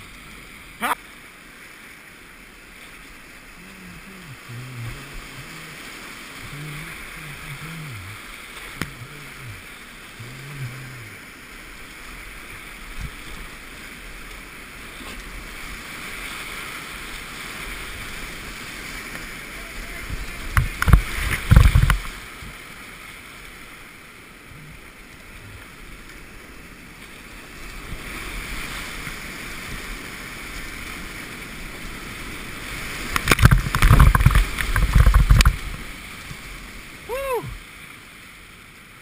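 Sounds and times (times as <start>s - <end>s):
whitewater rapids rushing: 0.0s - 26.3s, 27.2s - 37.9s
waves splashing onto kayak: 0.0s - 39.0s.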